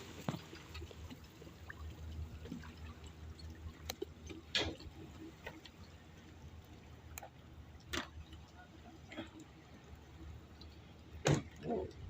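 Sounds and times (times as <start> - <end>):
water sloshing and dripping: 0.0 - 12.0.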